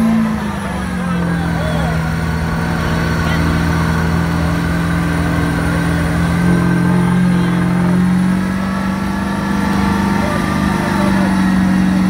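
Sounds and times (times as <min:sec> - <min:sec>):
truck engine revving high: 0:00.0 - 0:12.0.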